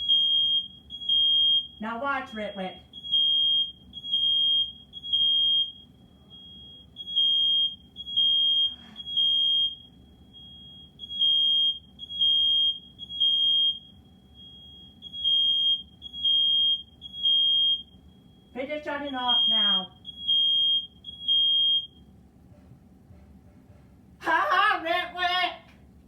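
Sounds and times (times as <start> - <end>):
smoke alarm high-pitched beeps: 0.0 - 22.1.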